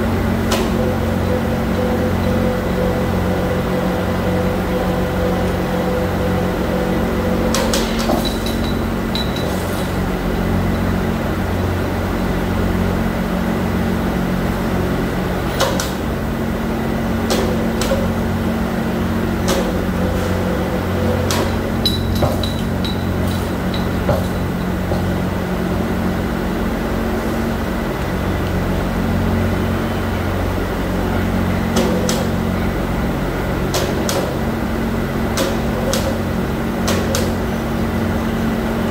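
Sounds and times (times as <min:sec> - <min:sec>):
factory machinery hum: 0:00.0 - 0:38.9.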